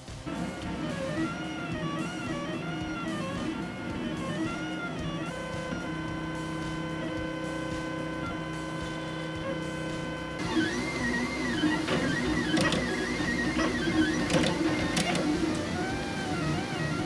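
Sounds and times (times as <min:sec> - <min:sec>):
music: 0:00.0 - 0:17.0
printer stepper motors whining: 0:00.0 - 0:17.0.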